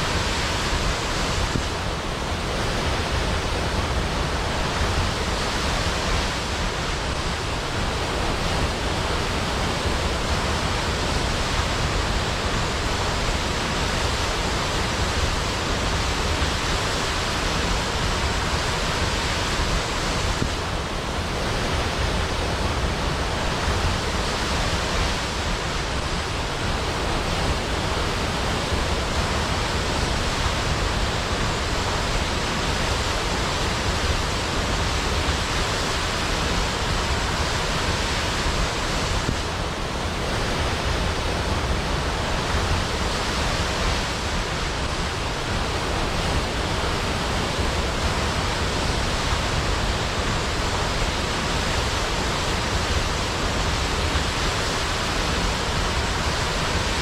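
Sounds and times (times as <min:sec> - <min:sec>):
waterfall rushing into a pool: 0:00.0 - 0:57.0.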